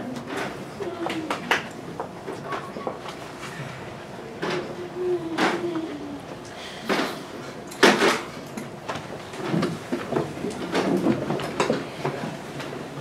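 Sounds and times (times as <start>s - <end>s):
knocks and clatter in a room: 0.0s - 13.0s.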